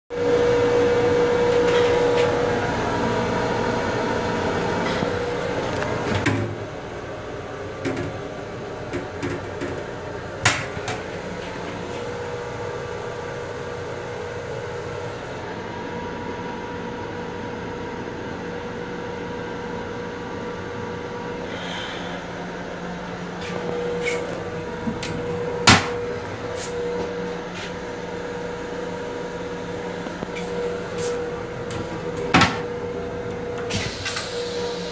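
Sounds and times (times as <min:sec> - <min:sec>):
equipment hum: 0:00.1 - 0:34.9.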